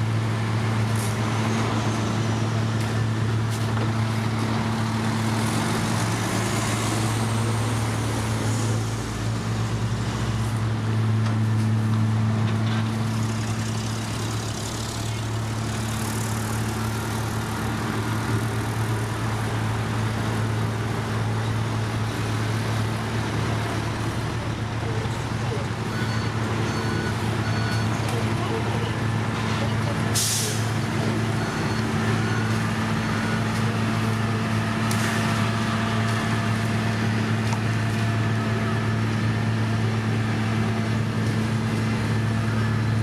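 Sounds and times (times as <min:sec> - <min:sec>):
heavy diesel machinery droning: 0:00.0 - 0:43.0.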